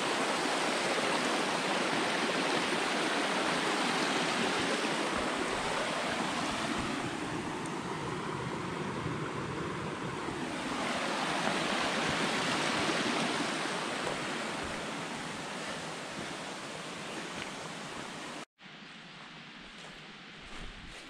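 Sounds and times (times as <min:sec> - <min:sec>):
rushing water: 0:00.0 - 0:18.5.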